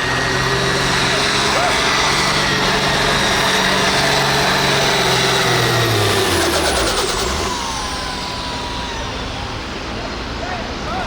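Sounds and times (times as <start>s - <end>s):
high whine: 0.0s - 10.6s
tractor engine revving: 0.0s - 10.8s.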